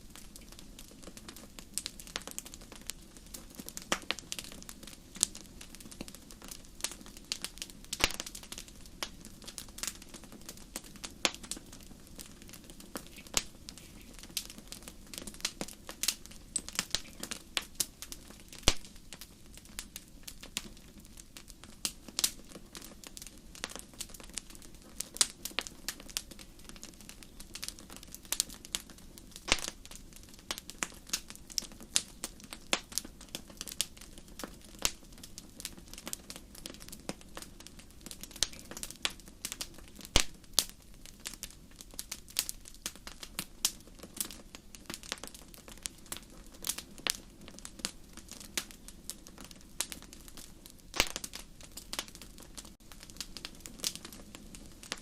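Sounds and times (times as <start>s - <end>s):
campfire crackling and popping: 0.0s - 55.0s
low rush of flames: 0.0s - 55.0s.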